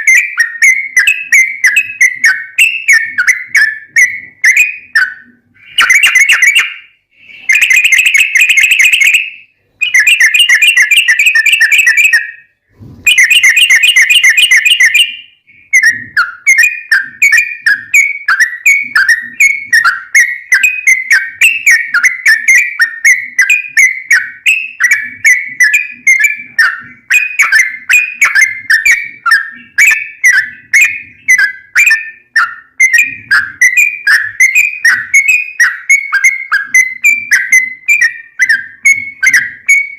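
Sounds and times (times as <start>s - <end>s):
bird singing rolling trills: 0.0s - 39.9s
bird whistled notes: 0.0s - 39.9s.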